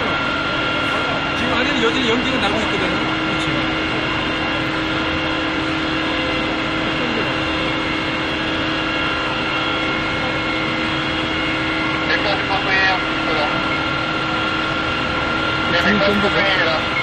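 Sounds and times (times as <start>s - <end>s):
loud mechanical drone: 0.0s - 17.0s.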